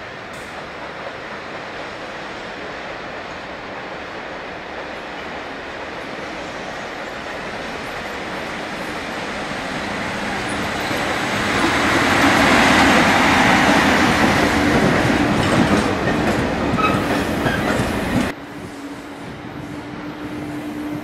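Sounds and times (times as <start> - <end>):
freight train passing: 0.0 - 21.0
wheels clickety-clack on rail: 0.0 - 21.0.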